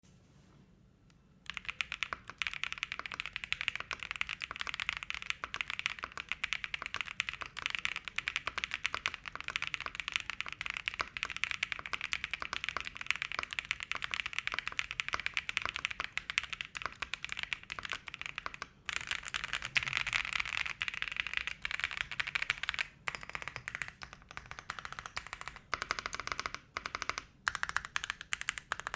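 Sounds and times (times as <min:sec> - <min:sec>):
mechanical keyboard typing: 0:01.5 - 0:28.9.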